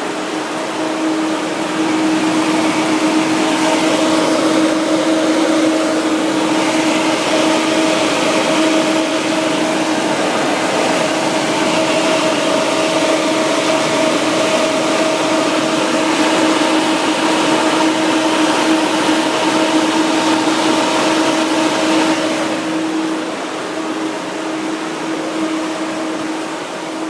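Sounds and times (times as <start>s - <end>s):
blower fan running: 0.0s - 27.0s.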